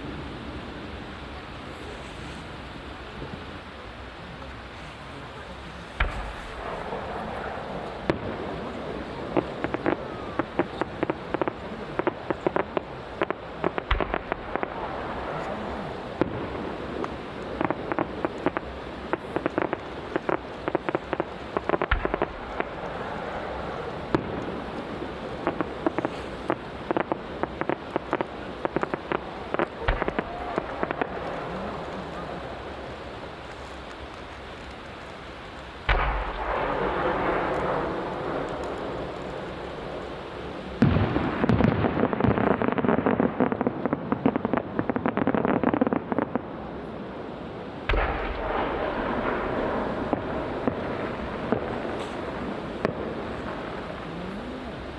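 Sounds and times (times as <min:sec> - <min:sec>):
fireworks popping and crackling: 0:00.0 - 0:54.9
deep firework boom: 0:05.9 - 0:33.4, 0:35.8 - 0:46.3, 0:47.8 - 0:54.9.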